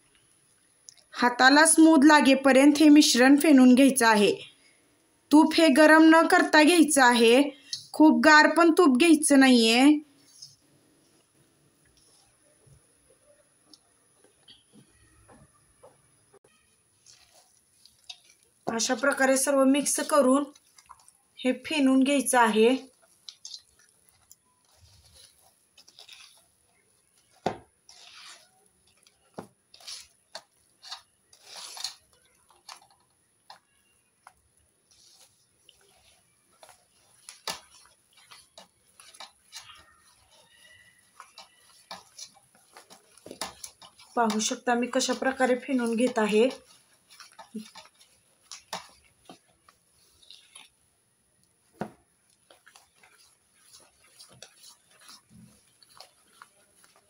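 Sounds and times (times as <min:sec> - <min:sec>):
mixture swishing in bowl: 0:05.9 - 0:12.9, 0:16.4 - 0:57.0.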